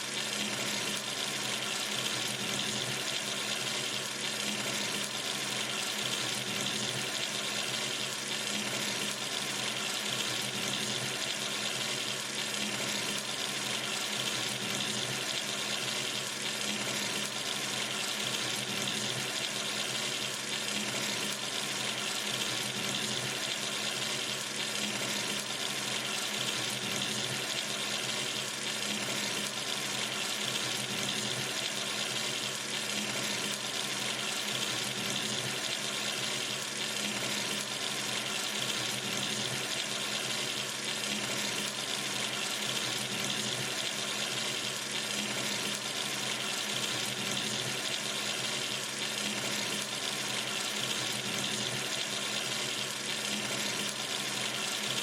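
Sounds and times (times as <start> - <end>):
tap water running into sink: 0.0 - 55.0.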